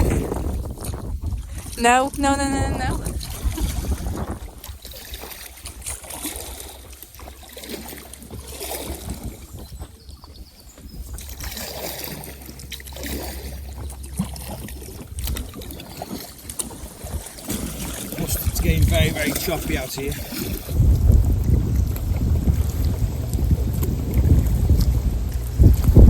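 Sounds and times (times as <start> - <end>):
water splashing around kayak: 0.0 - 26.0
wind rumble on microphone: 0.0 - 26.0.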